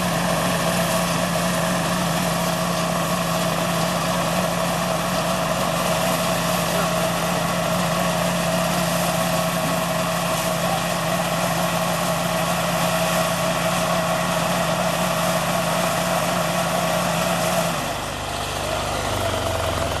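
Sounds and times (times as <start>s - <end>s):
combine harvester engine hum: 0.0s - 20.0s.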